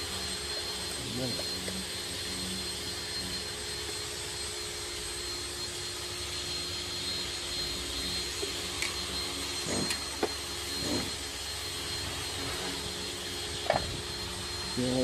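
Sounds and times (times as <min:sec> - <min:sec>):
motor whir and whine: 0:00.0 - 0:15.0.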